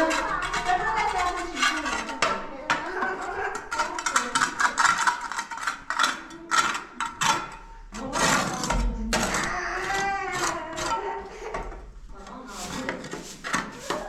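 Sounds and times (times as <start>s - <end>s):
voices: 0.0s - 4.9s, 6.0s - 14.0s
hard objects knocking and clattering: 0.0s - 14.0s.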